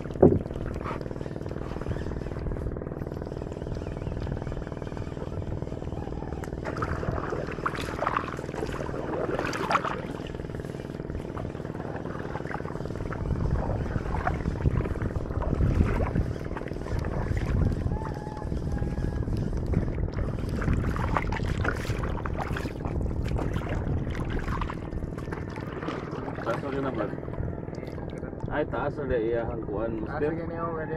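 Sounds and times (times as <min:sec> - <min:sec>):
boat engine droning: 0:00.0 - 0:30.9.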